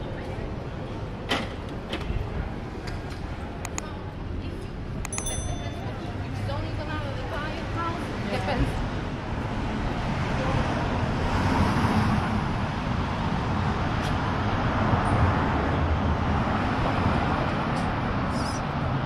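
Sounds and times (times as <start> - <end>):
passing road traffic: 0.0 - 19.0.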